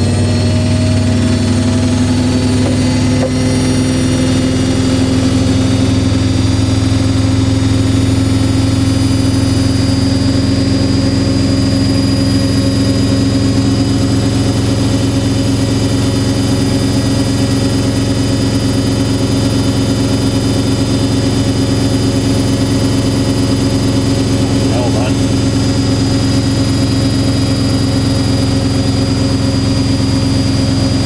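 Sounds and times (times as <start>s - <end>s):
washing machine motor whine: 0.0s - 31.0s.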